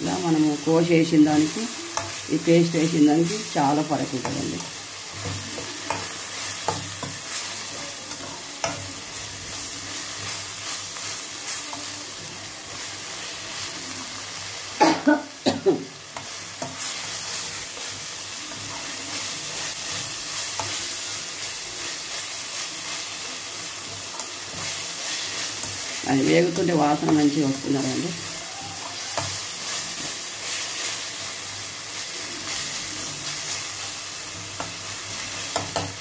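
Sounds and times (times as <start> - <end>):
onions sizzling in a pan: 0.0 - 36.0.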